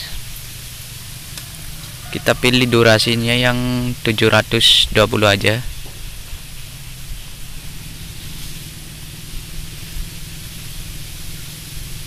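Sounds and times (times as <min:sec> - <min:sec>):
microphone hiss: 0:00.0 - 0:12.0.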